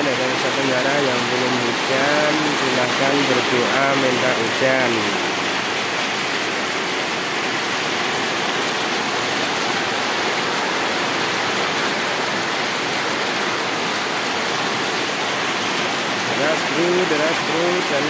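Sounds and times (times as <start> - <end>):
heavy rain falling: 0.0 - 18.0
water running off roof: 0.0 - 18.0.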